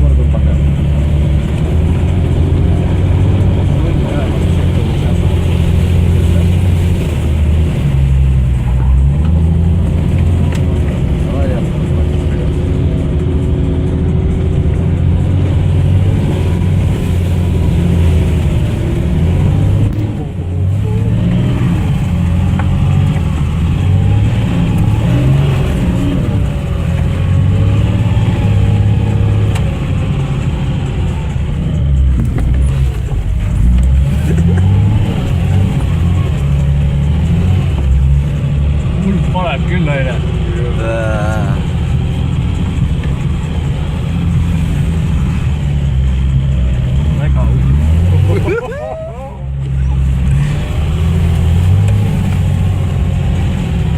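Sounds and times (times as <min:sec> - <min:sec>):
vehicle engine running under load: 0:00.0 - 0:53.9.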